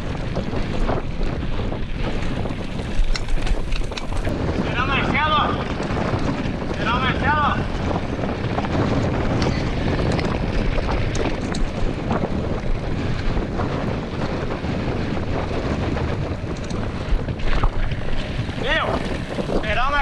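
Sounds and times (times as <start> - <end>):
bike clicks and rattles: 0.0 - 20.0
tyres rumbling on dirt: 0.0 - 20.0
wind noise on microphone: 0.0 - 20.0.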